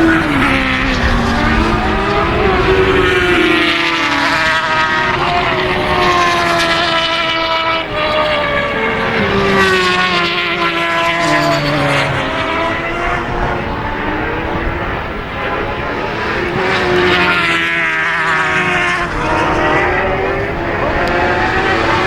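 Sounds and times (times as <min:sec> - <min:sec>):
racing motorcycles revving: 0:00.0 - 0:22.0.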